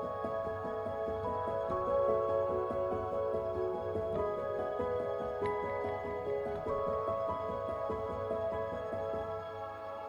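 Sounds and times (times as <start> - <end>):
gentle new-age instrumental music: 0.0 - 10.0.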